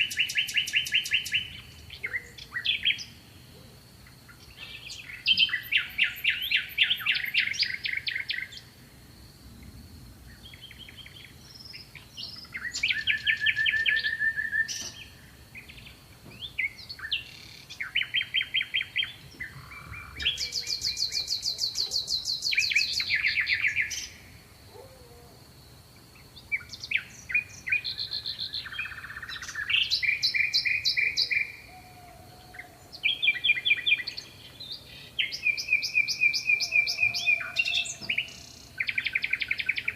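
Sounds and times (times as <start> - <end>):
songbirds trilling: 0.0 - 8.8, 10.3 - 25.4, 26.0 - 39.9.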